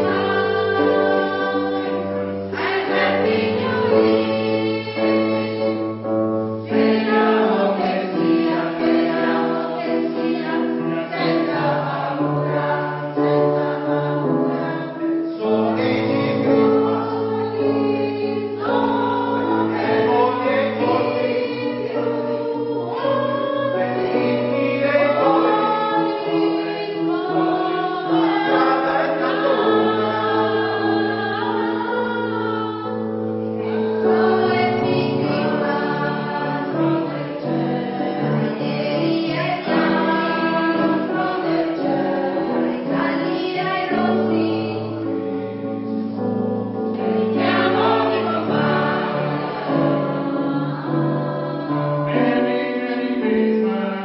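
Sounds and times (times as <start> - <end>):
choir singing in parts: 0.0 - 54.0.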